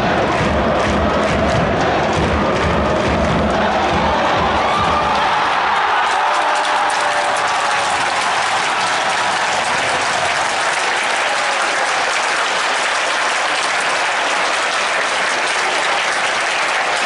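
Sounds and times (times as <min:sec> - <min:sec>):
stadium crowd applauding: 0:00.0 - 0:17.0.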